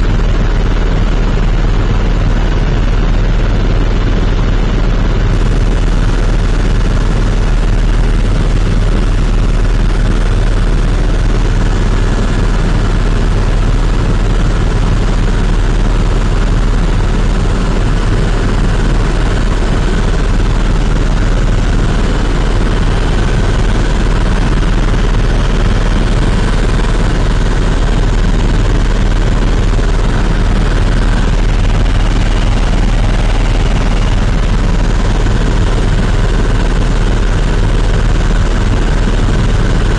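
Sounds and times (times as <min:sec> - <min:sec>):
helicopter cabin drone: 0:00.0 - 0:39.9.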